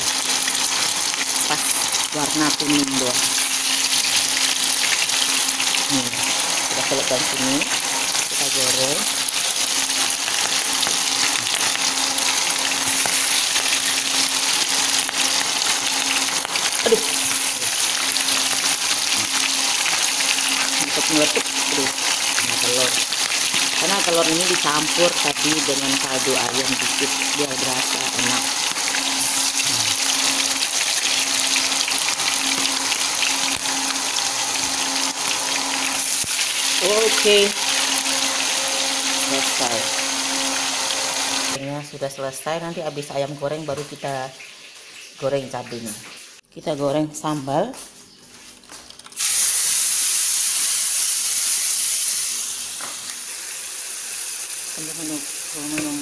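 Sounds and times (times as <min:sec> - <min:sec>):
chicken frying in hot oil: 0:00.0 - 0:46.4, 0:48.8 - 0:56.0.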